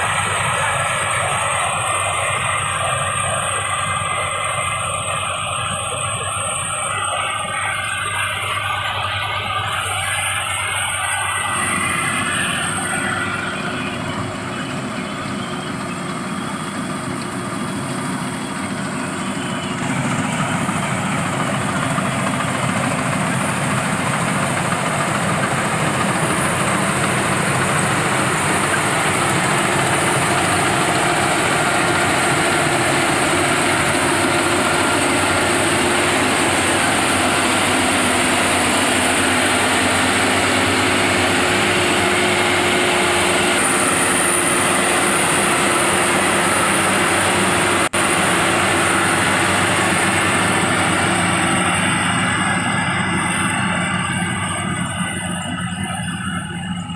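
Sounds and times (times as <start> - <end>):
harvesting machine engine running: 0.0 - 56.9.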